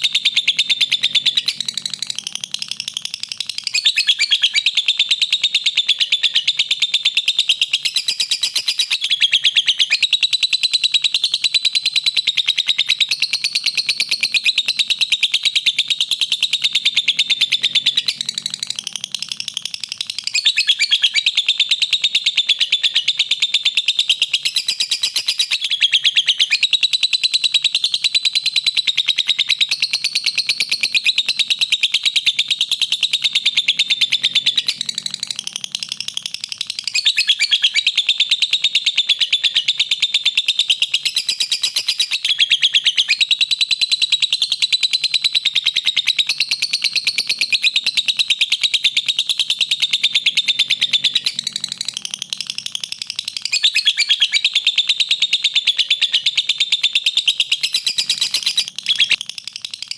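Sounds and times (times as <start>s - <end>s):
lovebird chattering trill: 0.0s - 59.9s.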